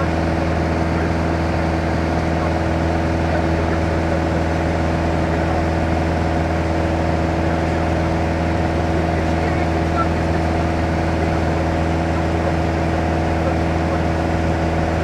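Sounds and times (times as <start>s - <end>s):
aircraft engine droning in cabin: 0.0s - 15.0s.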